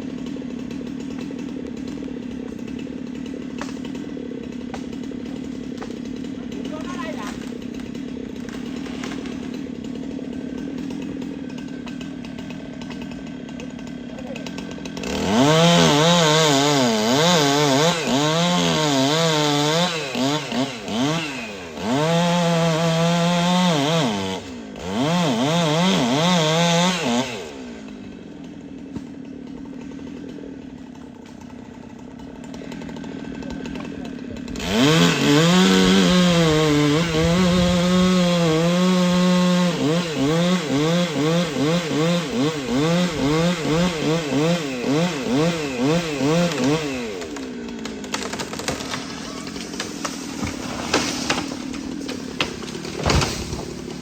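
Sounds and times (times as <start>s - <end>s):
chainsaw cutting wood: 0.0s - 54.0s
chainsaw idling and revving: 0.0s - 54.0s.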